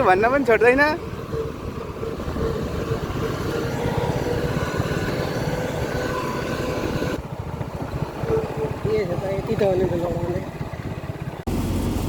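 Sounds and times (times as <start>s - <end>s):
harvester engine pulsing: 0.0s - 12.0s.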